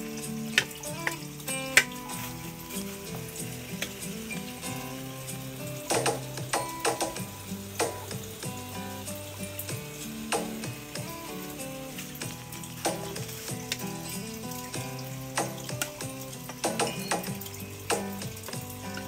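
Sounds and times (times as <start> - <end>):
food sizzling in a pan: 0.0 - 19.0
instrumental background music: 0.0 - 19.0.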